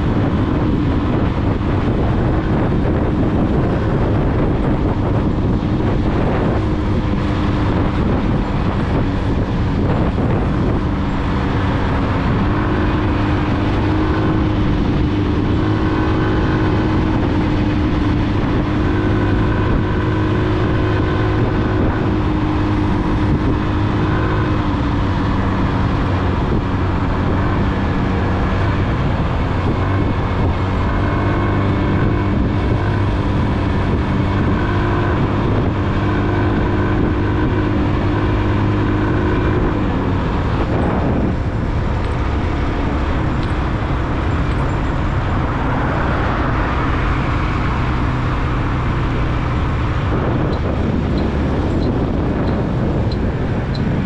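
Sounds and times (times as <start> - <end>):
motorcycle engine hum: 0.0 - 54.0
road noise rushing: 0.0 - 54.0.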